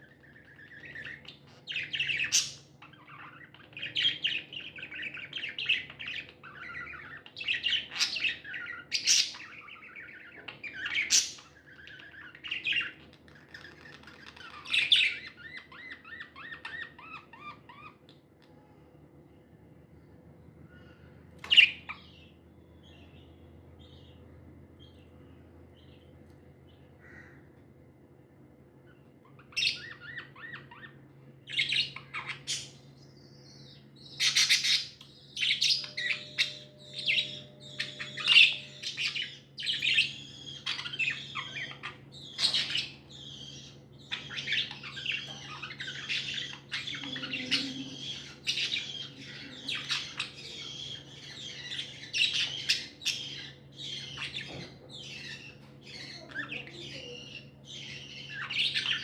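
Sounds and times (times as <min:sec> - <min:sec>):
budgerigars chirping: 0:00.0 - 0:18.2, 0:20.7 - 0:24.2, 0:29.2 - 0:59.0.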